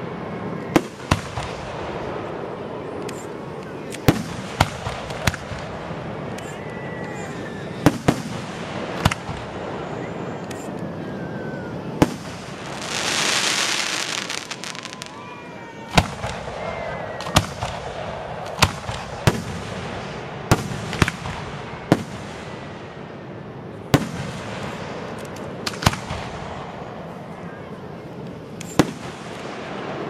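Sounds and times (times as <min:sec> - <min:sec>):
fireworks bangs: 0:00.0 - 0:30.0.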